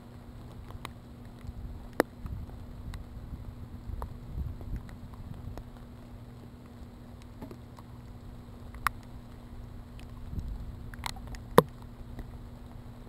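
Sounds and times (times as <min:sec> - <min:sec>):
rain drops ticking: 0:00.0 - 0:13.0
wind rumble on microphone: 0:00.0 - 0:13.0.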